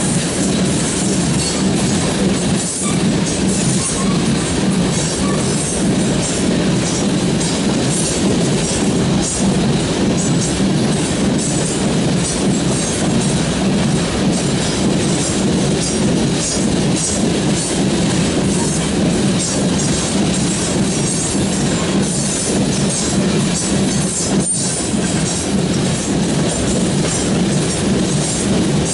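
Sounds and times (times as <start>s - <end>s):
train wheels rumbling on rail: 0.0s - 28.9s
wheels clickety-clack on rail joints: 0.0s - 28.9s.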